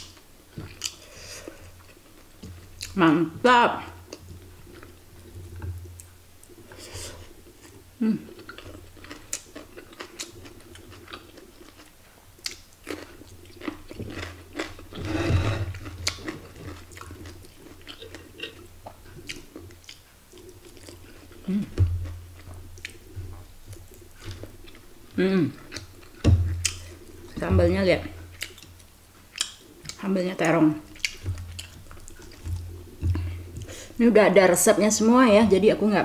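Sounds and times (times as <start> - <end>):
person chewing and biting food: 0.0 - 3.0, 4.1 - 27.4, 28.2 - 30.0, 30.8 - 33.9.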